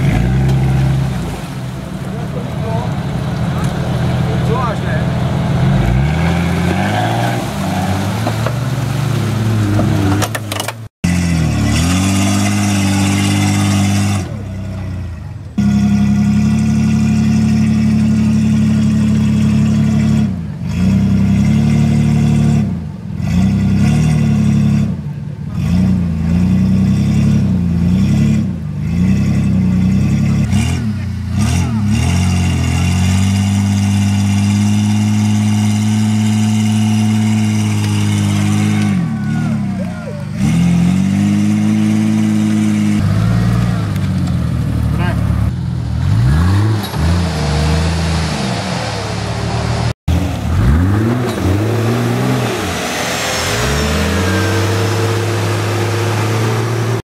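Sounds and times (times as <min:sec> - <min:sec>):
off-road engines revving hard: 0:00.0 - 0:57.0.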